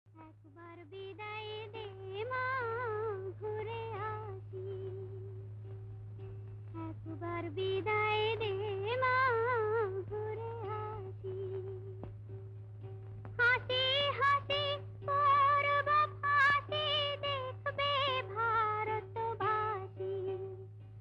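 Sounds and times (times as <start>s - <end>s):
steady low hum: 0.1s - 21.0s.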